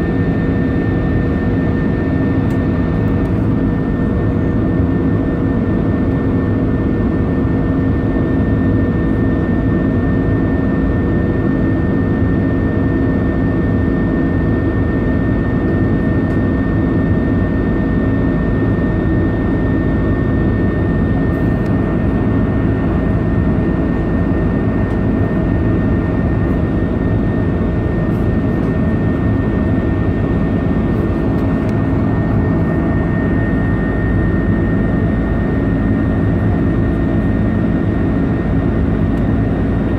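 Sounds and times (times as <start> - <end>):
constant high whine: 0.0 - 39.9
jet engine noise in cabin: 0.0 - 39.9.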